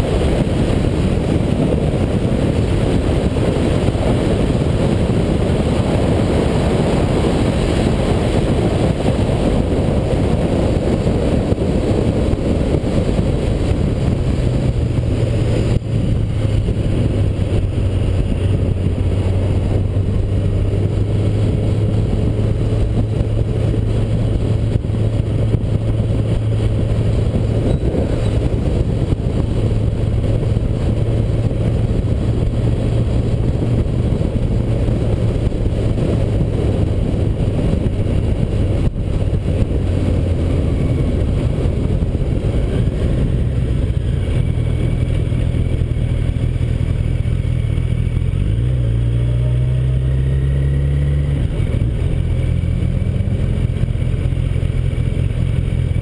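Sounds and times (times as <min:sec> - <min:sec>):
motorcycle engine at road speed: 0:00.0 - 0:56.0
wind rushing on microphone: 0:00.0 - 0:56.0.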